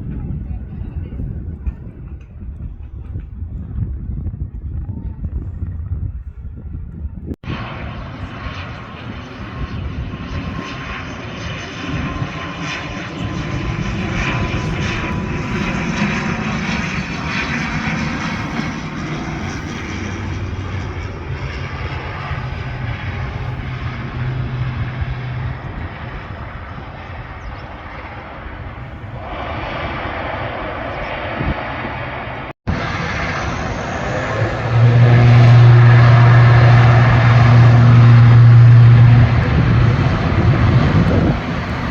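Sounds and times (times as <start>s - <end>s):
airplane engines passing: 0.0s - 41.9s.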